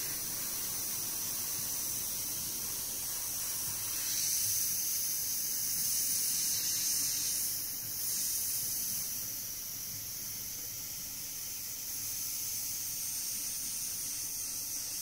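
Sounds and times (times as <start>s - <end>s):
airbrush spraying hiss: 0.0s - 15.0s.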